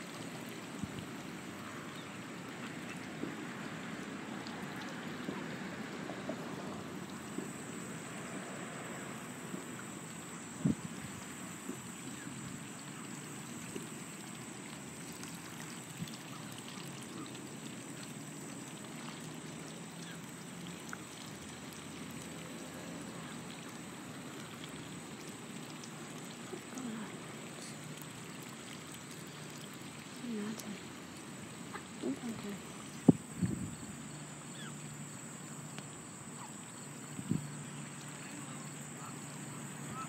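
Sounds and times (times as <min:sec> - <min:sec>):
water trickling: 0:00.0 - 0:40.0.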